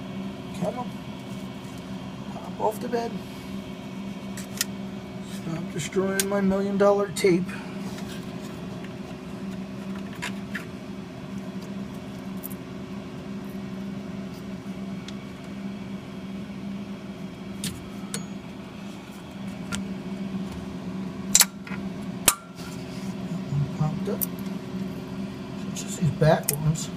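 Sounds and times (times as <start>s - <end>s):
machine hum: 0.0s - 26.9s.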